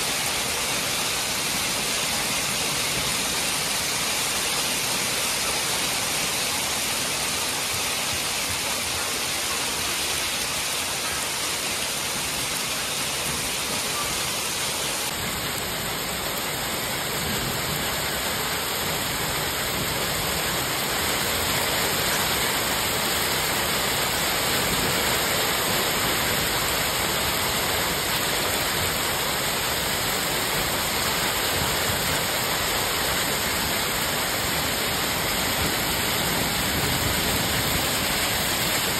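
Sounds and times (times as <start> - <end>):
hail and heavy rain on metal roof: 0.0 - 38.9
rain splashing into water: 0.0 - 38.9.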